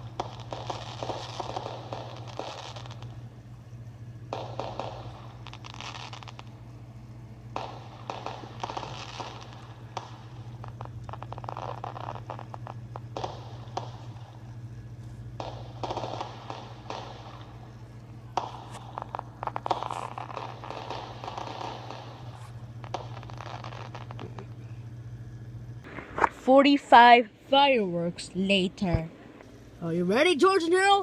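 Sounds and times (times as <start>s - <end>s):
fireworks crackling and popping: 0.0s - 27.8s
steady low hum: 0.0s - 31.0s.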